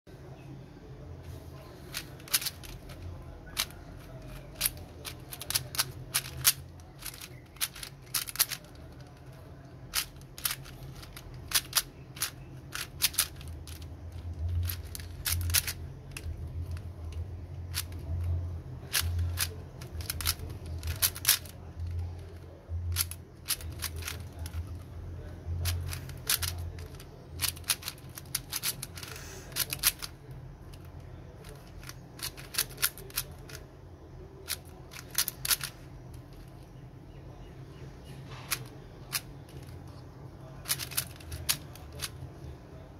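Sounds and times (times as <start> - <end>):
puzzle cube clicking: 1.8 - 24.9, 25.6 - 33.6, 34.4 - 36.5, 38.5 - 40.0, 40.6 - 42.3.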